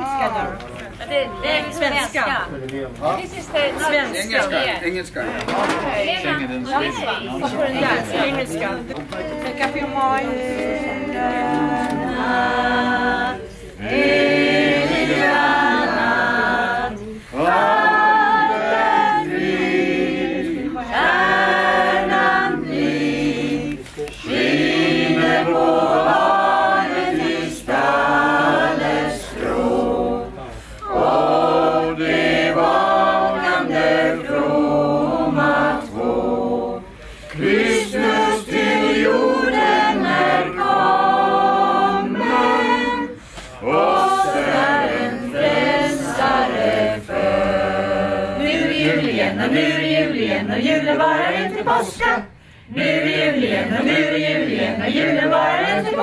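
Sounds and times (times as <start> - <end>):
women's choir singing unaccompanied: 3.1 - 56.0.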